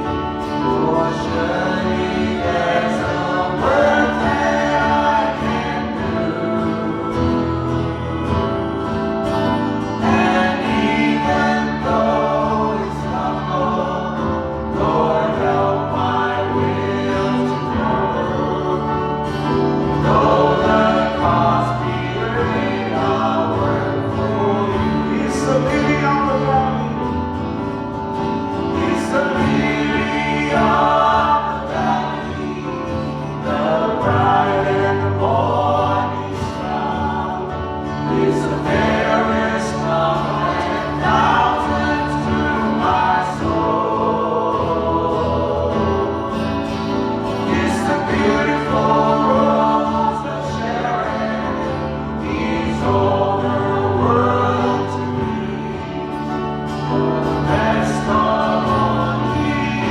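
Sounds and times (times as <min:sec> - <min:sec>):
choir singing gospel: 0:00.0 - 0:59.9
guitar: 0:00.0 - 0:59.9
steady bass: 0:00.0 - 0:59.9.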